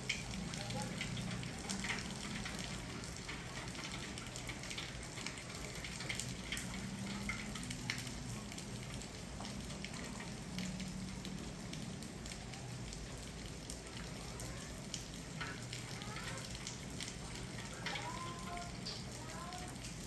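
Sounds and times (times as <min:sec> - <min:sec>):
rain falling: 0:00.0 - 0:20.0
raindrops pattering on hard surfaces: 0:00.0 - 0:20.0.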